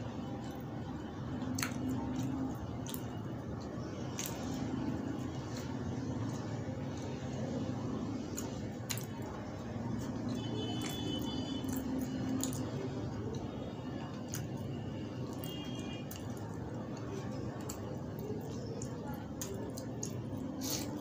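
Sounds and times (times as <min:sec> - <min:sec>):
low background noise: 0:00.0 - 0:21.0
wet squishing of food: 0:00.0 - 0:21.0.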